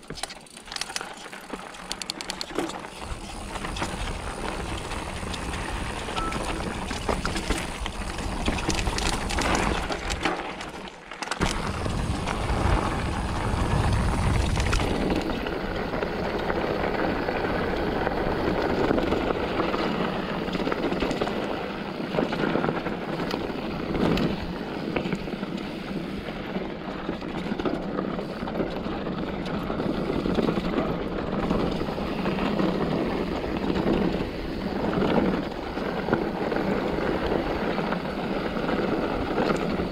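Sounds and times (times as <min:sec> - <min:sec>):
bike rattling and knocking: 0:00.0 - 0:39.9
knobby tyres rolling on dirt: 0:00.0 - 0:39.9.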